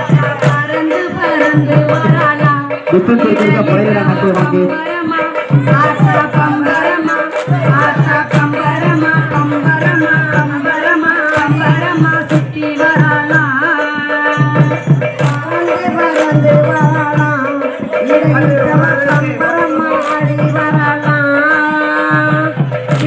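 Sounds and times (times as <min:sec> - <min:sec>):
steady drum beat: 0:00.0 - 0:23.0
woman singing into microphone: 0:00.0 - 0:23.0.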